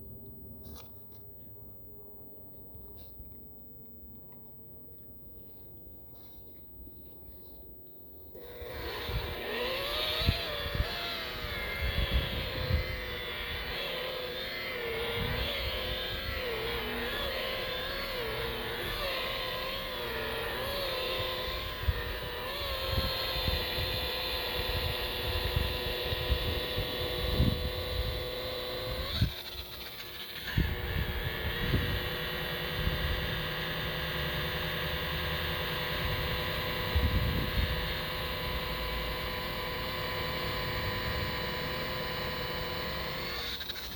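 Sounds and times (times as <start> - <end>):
rotary buffer motor whine: 2.0 - 3.3, 4.0 - 43.9.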